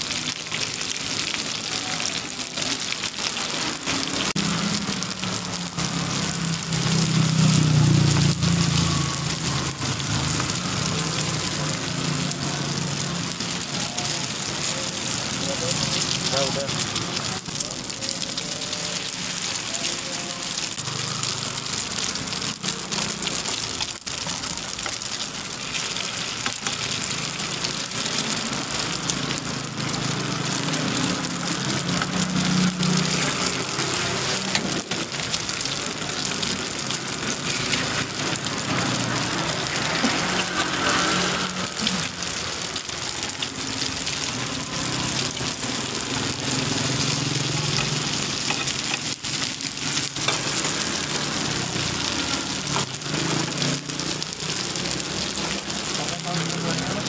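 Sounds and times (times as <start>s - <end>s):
egg sizzling in a metal pan: 0.0s - 57.0s.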